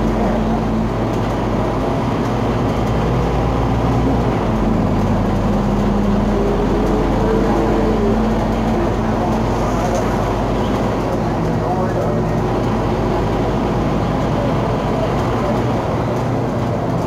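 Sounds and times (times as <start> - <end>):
bus engine running: 0.0 - 17.0.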